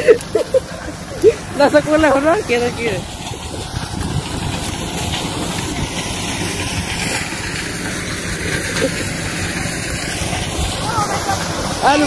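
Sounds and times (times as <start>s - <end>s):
tractor engine hum: 0.0s - 12.0s.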